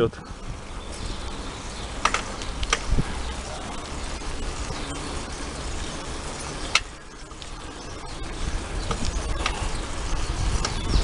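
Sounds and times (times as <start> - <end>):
bicycle riding rumble: 0.0 - 11.0
sharp bicycle clicks: 0.7 - 11.0.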